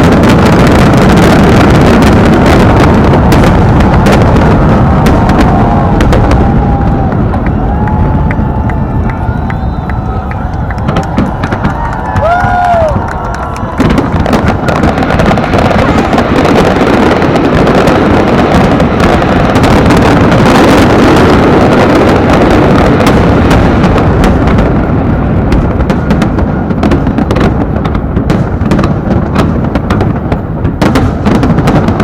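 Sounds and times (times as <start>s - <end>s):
fireworks booming and crackling: 0.0s - 32.0s.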